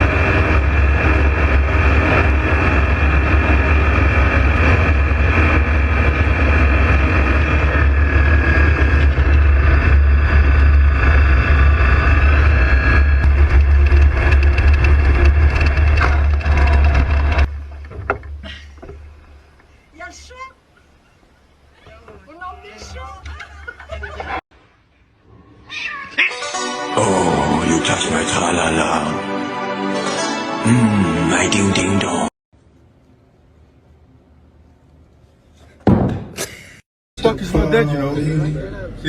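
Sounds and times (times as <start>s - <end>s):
airplane drone: 0.0s - 19.9s, 23.9s - 39.0s.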